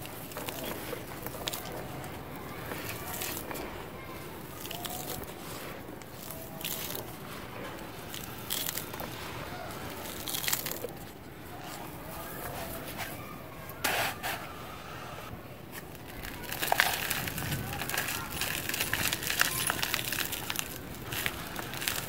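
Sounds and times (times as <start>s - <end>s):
cement mix crunching: 0.0s - 14.6s, 15.3s - 22.0s.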